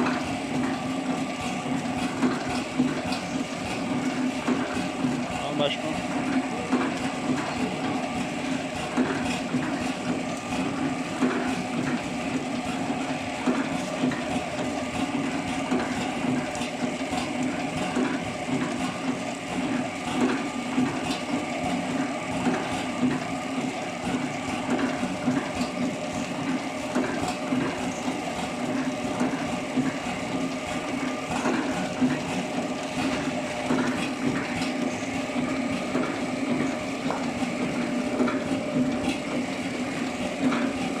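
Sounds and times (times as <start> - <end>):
packaging machine humming: 0.0 - 41.0.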